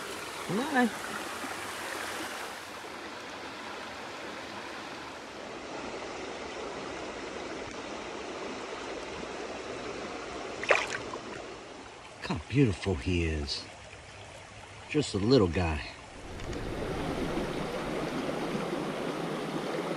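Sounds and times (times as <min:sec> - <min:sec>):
creek water over rocks: 0:00.0 - 0:19.9.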